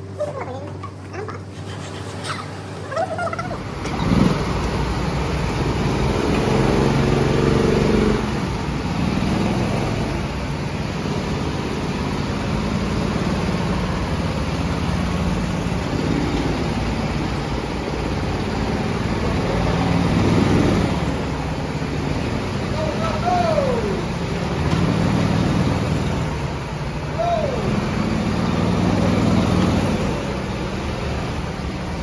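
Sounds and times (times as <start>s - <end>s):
go-kart engines idling and revving: 0.0s - 32.0s.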